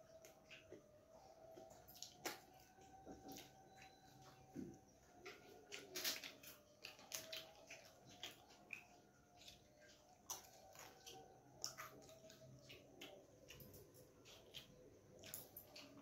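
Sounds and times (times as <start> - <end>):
fingers mixing food on metal plate: 0.0 - 16.0
soft chewing: 0.0 - 16.0.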